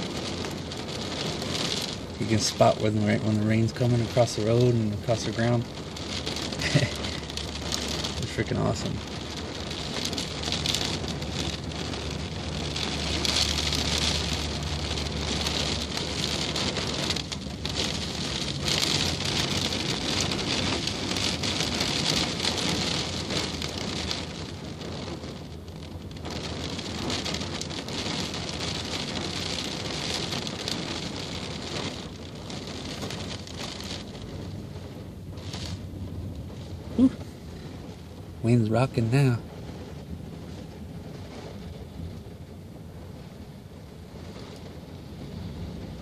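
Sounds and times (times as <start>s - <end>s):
rain on vehicle roof: 0.0s - 46.0s.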